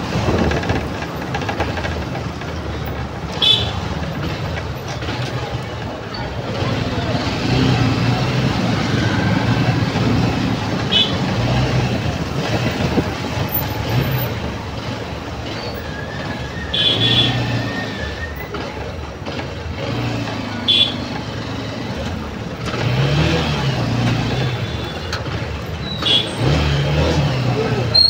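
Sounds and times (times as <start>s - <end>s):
vehicle engines running and idling: 0.0s - 28.0s.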